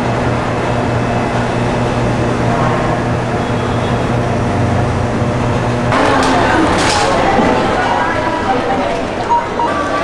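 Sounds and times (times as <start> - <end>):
city traffic: 0.0 - 10.0.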